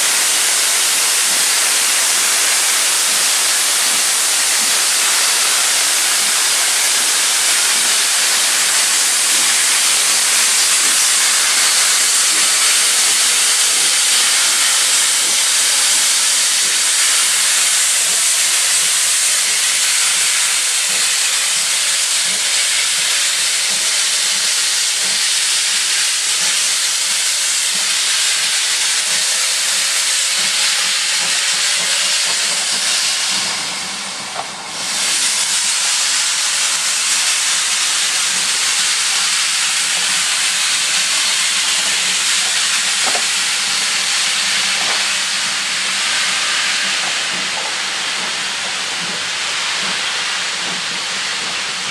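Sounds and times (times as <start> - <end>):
steam locomotive hissing steam: 0.0 - 51.9.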